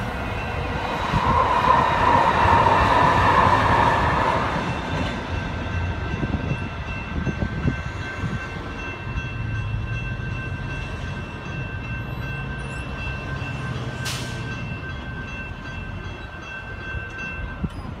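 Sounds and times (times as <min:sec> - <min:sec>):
railroad crossing bells ringing: 0:00.0 - 0:18.0.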